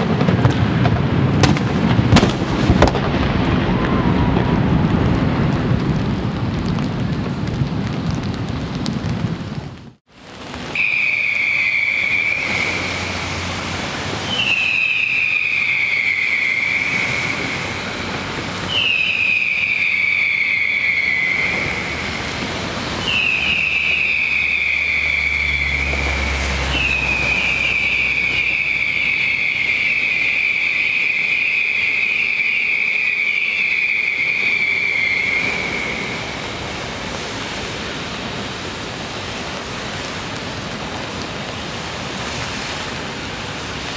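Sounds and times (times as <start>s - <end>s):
whistling fireworks: 0.0s - 9.0s, 10.4s - 38.4s
low rumble of firework bursts: 0.0s - 38.1s.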